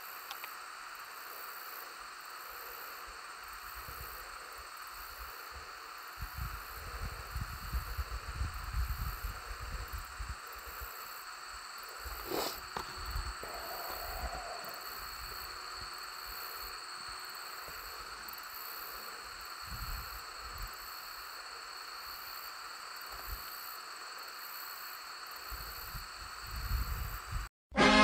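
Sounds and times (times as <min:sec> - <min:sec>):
steady hiss: 0:00.0 - 0:27.5.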